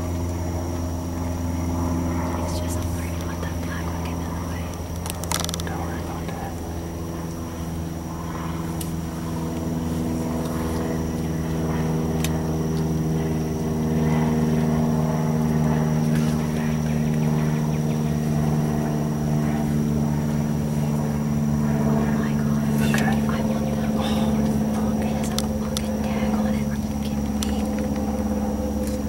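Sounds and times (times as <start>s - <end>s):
faint high whine: 0.0s - 29.0s
low engine drone: 0.0s - 29.0s.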